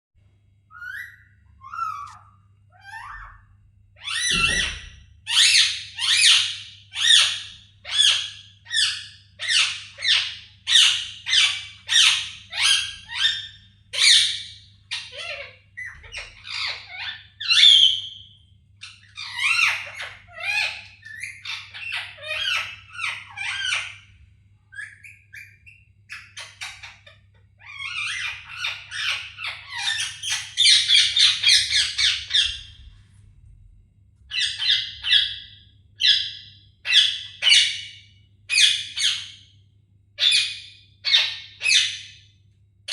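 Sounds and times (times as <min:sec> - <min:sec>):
faint steady hum: 0:00.2 - 0:42.9
parrot squawking: 0:00.7 - 0:03.4, 0:04.0 - 0:18.2, 0:18.8 - 0:24.1, 0:24.7 - 0:32.8, 0:34.3 - 0:39.4, 0:40.2 - 0:42.2.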